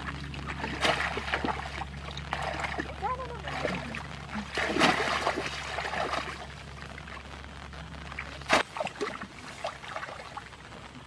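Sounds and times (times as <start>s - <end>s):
shallow water sloshing and splashing: 0.0s - 7.4s, 8.1s - 10.6s
water dripping: 0.0s - 11.0s.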